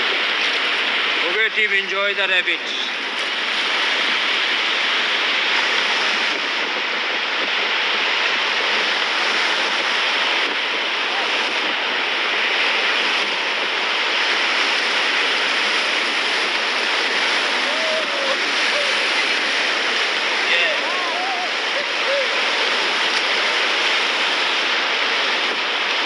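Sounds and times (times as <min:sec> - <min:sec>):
whitewater rushing over rapids: 0:00.0 - 0:26.0.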